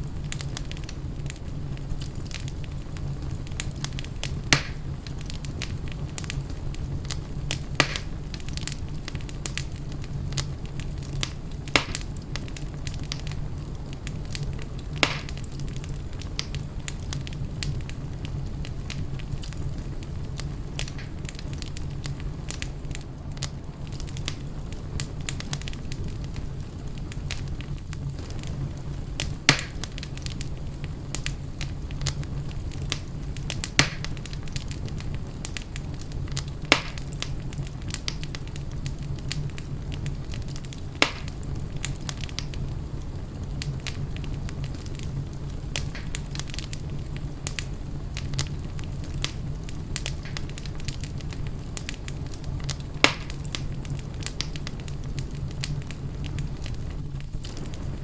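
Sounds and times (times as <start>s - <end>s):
fire crackling: 0.0s - 58.0s
sharp pops of fire: 0.1s - 58.0s.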